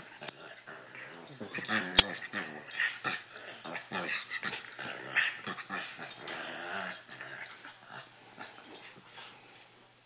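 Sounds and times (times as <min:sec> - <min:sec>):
puppies growling: 0:00.2 - 0:08.8.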